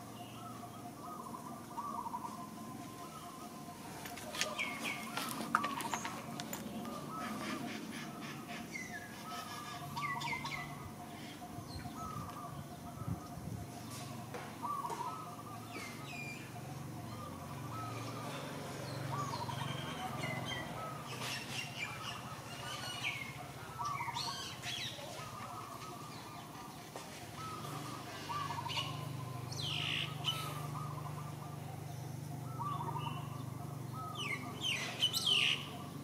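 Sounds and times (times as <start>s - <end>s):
birds chirping and trilling: 0.0s - 36.0s.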